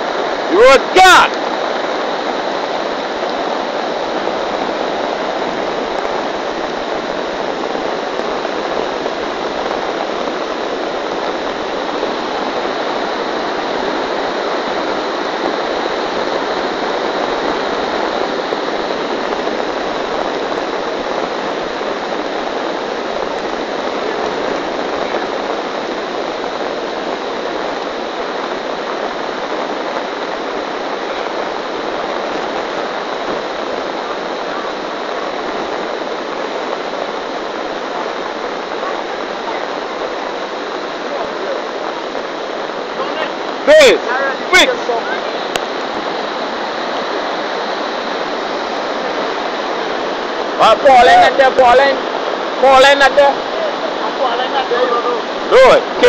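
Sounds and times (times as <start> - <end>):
flooded river rushing: 0.0 - 56.0.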